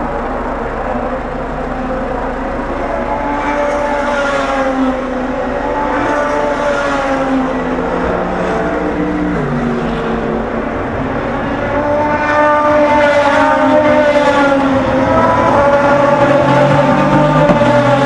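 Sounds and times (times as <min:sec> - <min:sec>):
race car engines braking and accelerating: 0:00.0 - 0:18.0.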